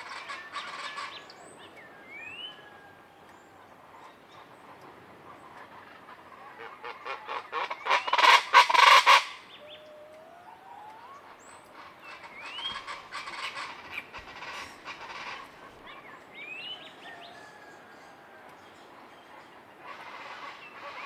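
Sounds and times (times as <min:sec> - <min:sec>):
birds calling in harsh chorus: 0:00.0 - 0:21.0.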